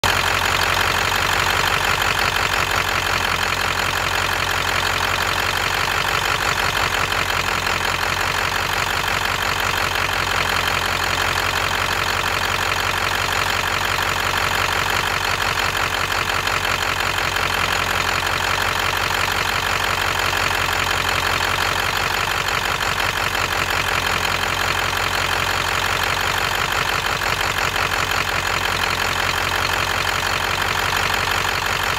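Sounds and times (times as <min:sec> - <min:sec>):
engine idling with misfire: 0:00.0 - 0:31.9.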